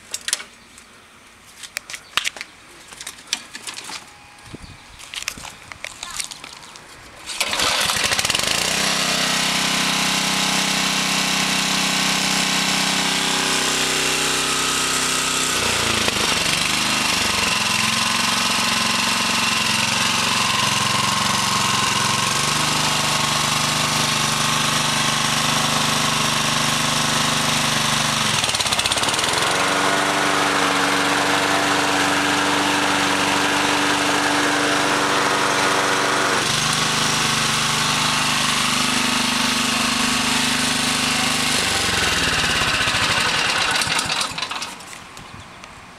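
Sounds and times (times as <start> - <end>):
lawn mower engine running: 7.2 - 45.0.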